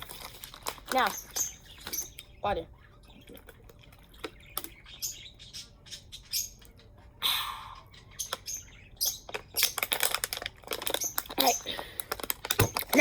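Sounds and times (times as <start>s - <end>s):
pet birds chirping: 0.0s - 13.0s.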